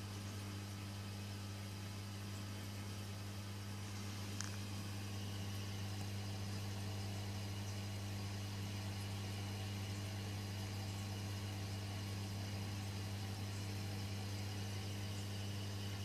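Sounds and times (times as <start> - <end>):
aquarium pump motor humming: 0.0 - 16.0.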